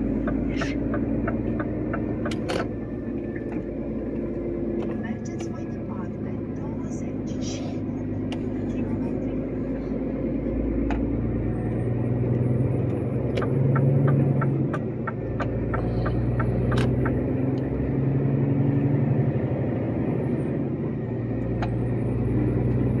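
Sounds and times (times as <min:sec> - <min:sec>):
diesel truck engine hum: 0:00.0 - 0:23.0.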